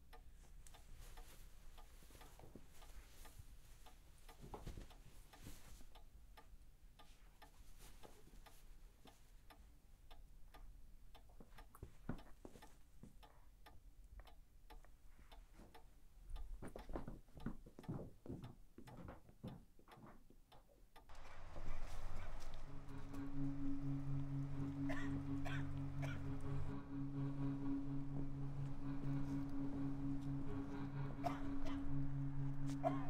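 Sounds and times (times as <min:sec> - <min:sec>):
clock ticking: 0:00.0 - 0:33.0.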